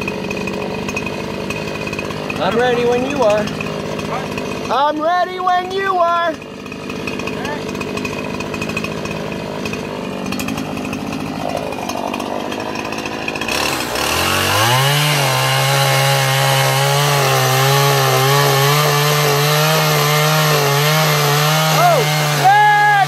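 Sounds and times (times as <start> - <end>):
chainsaw revving and cutting log: 0.0 - 23.0.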